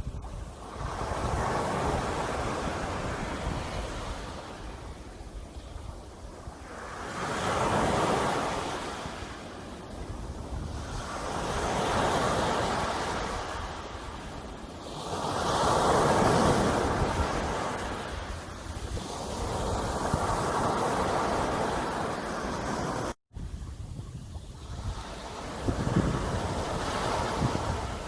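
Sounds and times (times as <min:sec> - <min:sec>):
sea waves breaking on shore: 0:00.1 - 0:23.2, 0:24.5 - 0:28.0.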